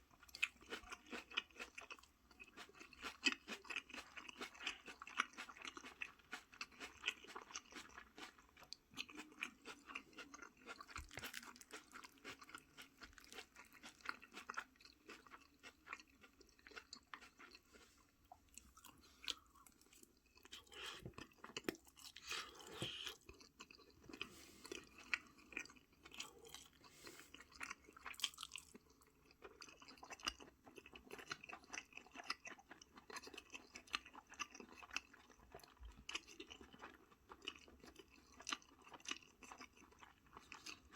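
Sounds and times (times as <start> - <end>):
person chewing food: 0.1 - 40.9.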